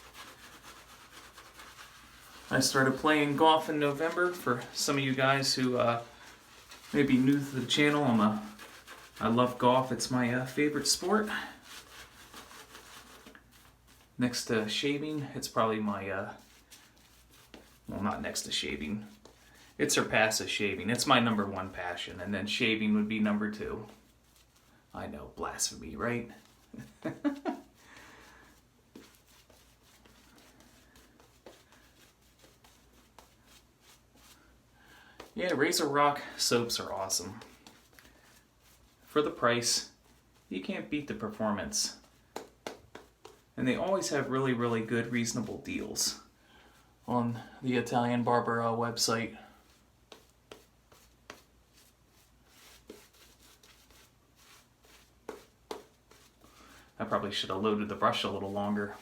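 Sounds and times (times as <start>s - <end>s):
shaving brush swirling on soap: 0.0s - 47.2s, 48.9s - 59.0s.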